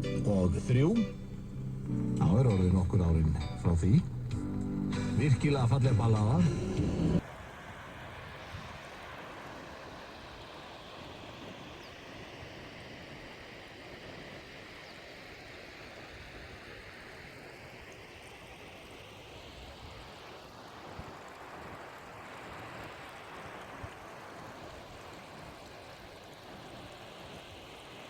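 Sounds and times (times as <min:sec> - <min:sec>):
running water rushing: 0:05.1 - 0:28.0.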